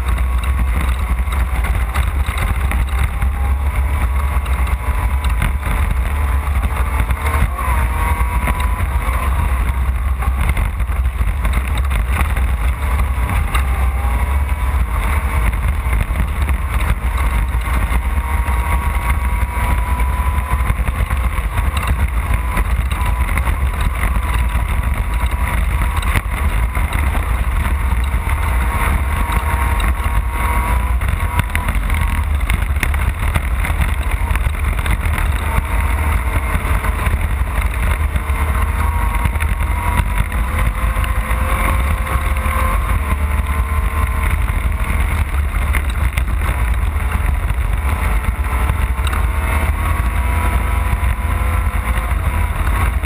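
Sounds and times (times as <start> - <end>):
low drivetrain rumble: 0.0 - 53.0
race car engine running hard: 0.0 - 53.0.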